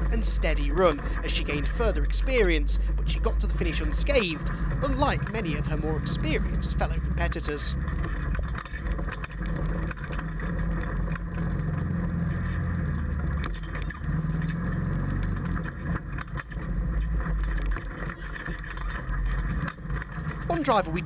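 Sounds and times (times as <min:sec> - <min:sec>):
rally car engine running hard: 0:00.0 - 0:21.0.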